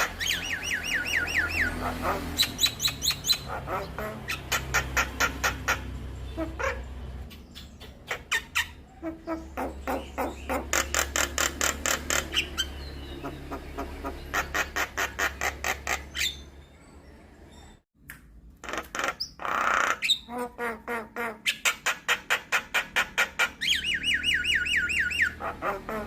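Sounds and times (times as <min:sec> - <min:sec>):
myna chattering and squawking: 0:00.0 - 0:16.4, 0:18.6 - 0:26.0.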